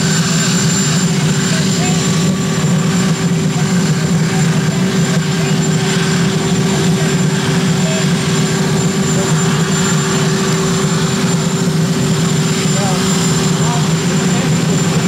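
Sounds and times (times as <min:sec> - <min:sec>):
helicopter engine drone: 0:00.0 - 0:15.0.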